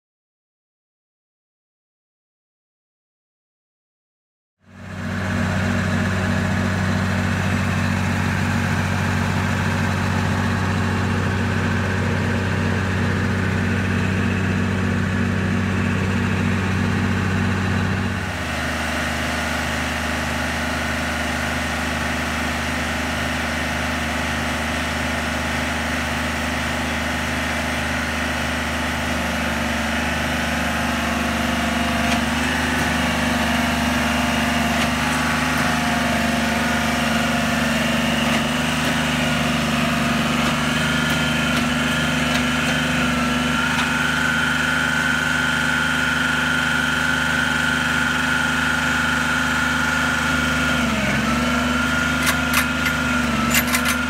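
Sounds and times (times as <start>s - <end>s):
machine engine running: 4.6s - 54.0s.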